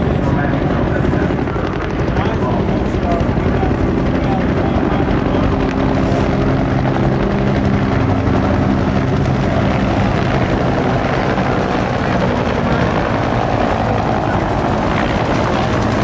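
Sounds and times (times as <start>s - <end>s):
helicopters flying past: 0.0s - 16.0s.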